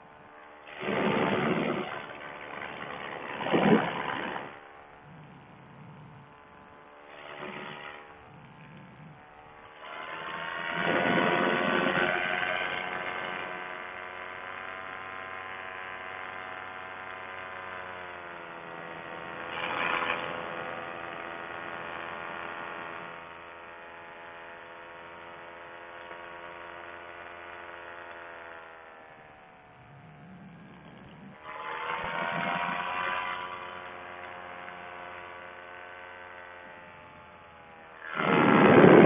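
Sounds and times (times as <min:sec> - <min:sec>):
paramotor engine droning: 0:00.0 - 0:39.0.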